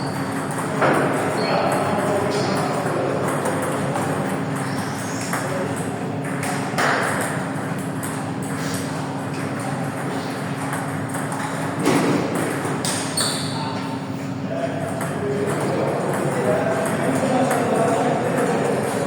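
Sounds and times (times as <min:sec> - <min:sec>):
murmur of a playing hall: 0:00.0 - 0:19.0.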